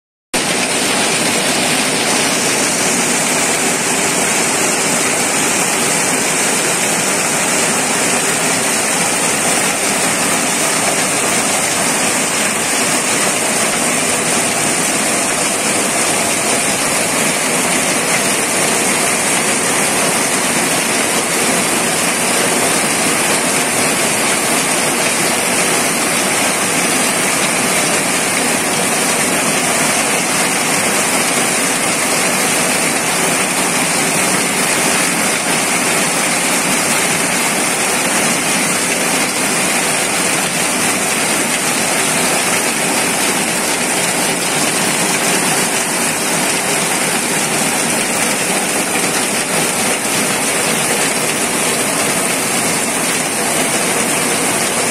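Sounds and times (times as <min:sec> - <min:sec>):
heavy rain pouring: 0:00.4 - 0:54.9.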